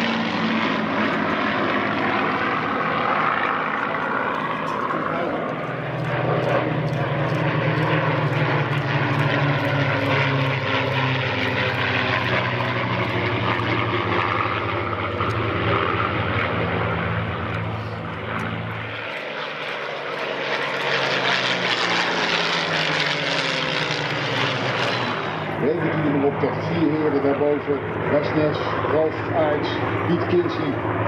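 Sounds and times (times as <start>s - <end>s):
propeller planes droning past: 0.0s - 31.0s.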